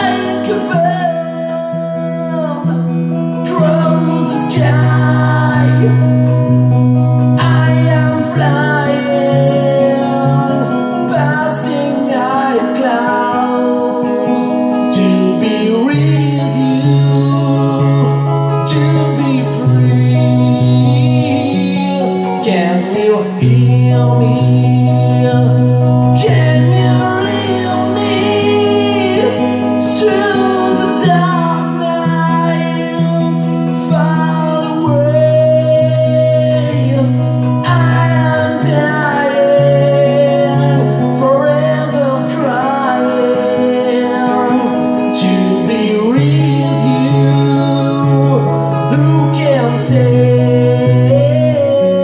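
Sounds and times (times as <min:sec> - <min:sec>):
electric guitar lead melody: 0:00.0 - 0:52.0.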